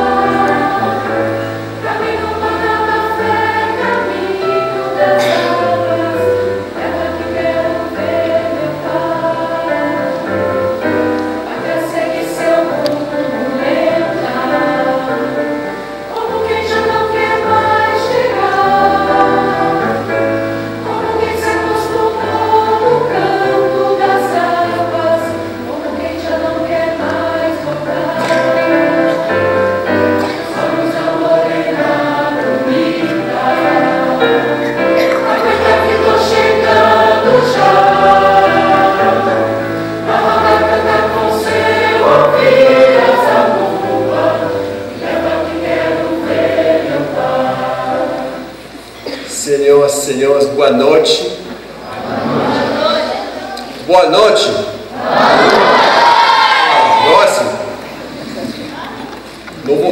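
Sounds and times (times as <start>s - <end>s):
mixed choir singing in harmony: 0.0s - 59.9s.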